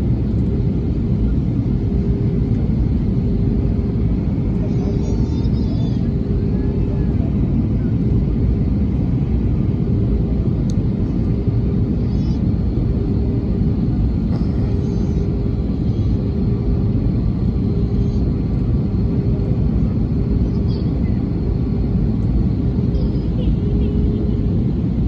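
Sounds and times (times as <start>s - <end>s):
airliner engines rumbling: 0.0s - 25.0s.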